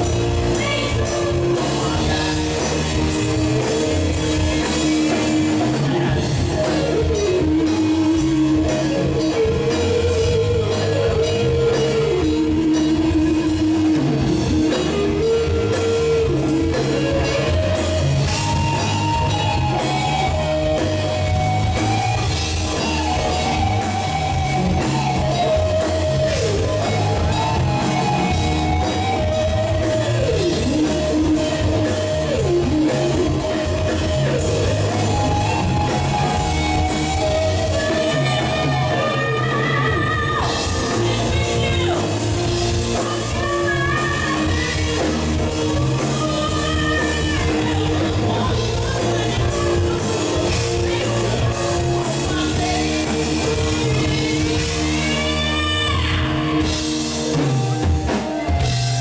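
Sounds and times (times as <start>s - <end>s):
electric guitar solo: 0.0s - 59.0s
live rock band playing: 0.0s - 59.0s.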